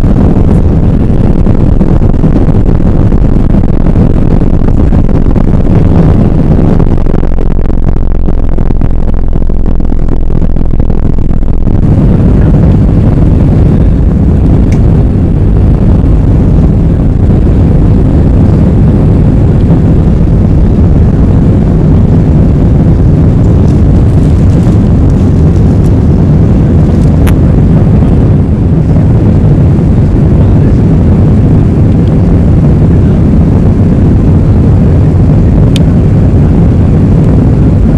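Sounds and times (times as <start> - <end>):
jet engines low rumble: 0.0 - 37.9.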